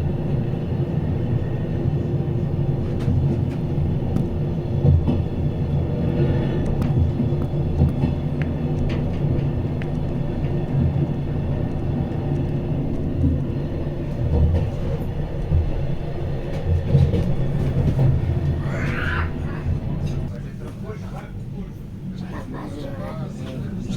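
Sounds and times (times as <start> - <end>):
train rumbling: 0.0 - 23.9.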